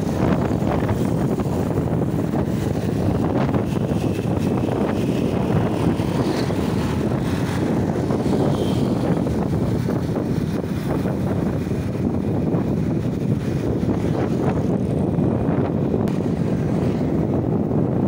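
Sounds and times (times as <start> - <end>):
motorcycle engine: 0.0 - 17.6
road noise: 0.0 - 18.0
wind rush on microphone: 0.0 - 18.0.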